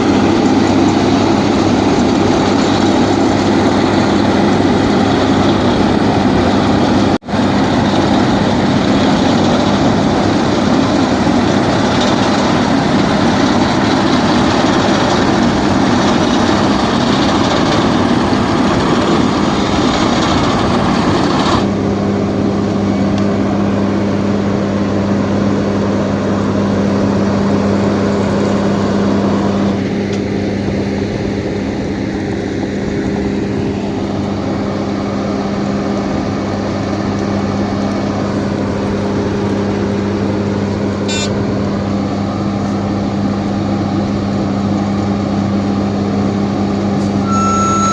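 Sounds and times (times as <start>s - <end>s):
heavy machinery engines running: 0.0s - 47.9s.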